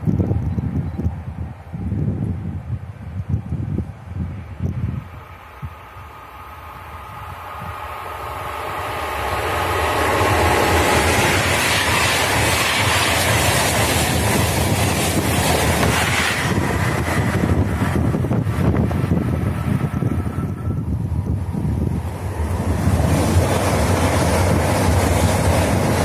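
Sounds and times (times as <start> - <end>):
train passing at speed: 0.0 - 26.0
wind roar on microphone: 0.0 - 26.0.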